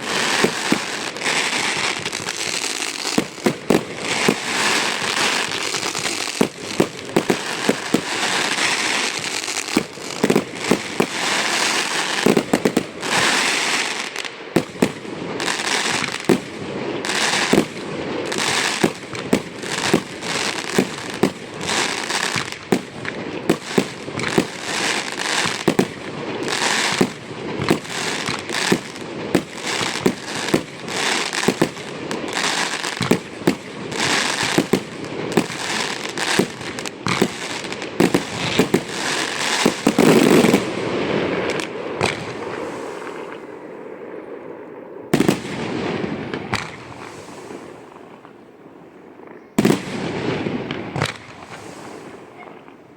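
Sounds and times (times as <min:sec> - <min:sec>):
fireworks crackling: 0:00.0 - 0:52.9.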